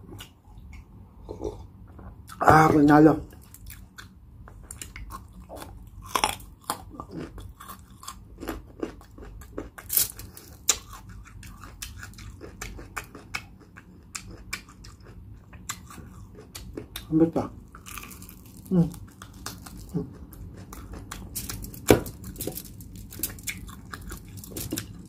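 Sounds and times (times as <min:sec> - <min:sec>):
crunchy chewing: 0:03.3 - 0:25.0.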